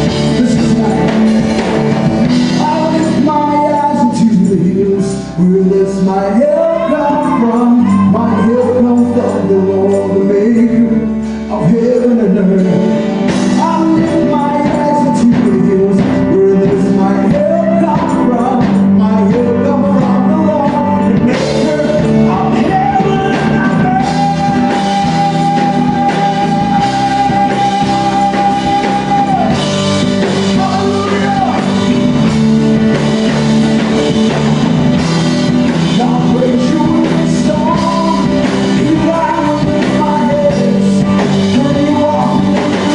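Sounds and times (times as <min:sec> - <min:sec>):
gospel band music with guitar: 0:00.0 - 0:42.9.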